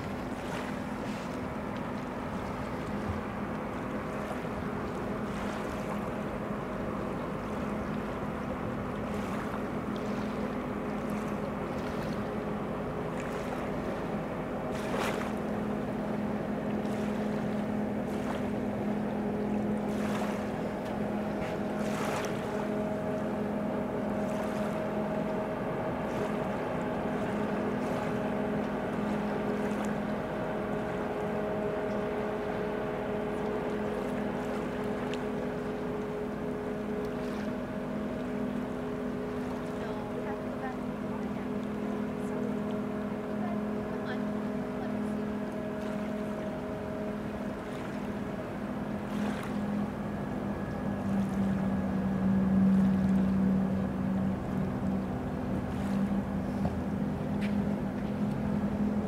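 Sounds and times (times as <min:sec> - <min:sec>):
distant ferry engine drone: 0:00.0 - 0:59.0.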